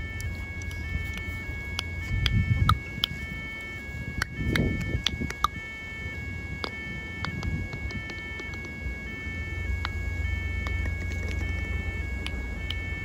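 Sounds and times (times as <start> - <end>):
level-crossing electronic alarm: 0.0 - 13.0.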